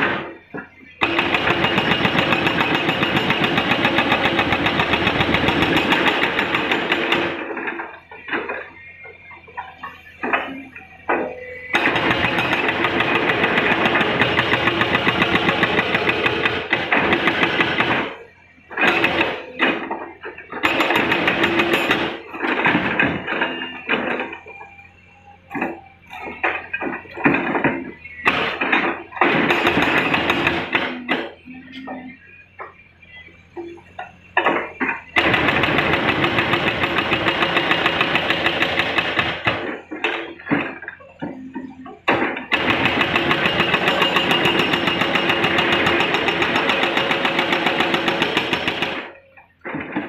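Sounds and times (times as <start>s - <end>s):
diesel engine humming: 0.0s - 50.0s
hydraulic breaker hammering rock: 0.0s - 50.0s.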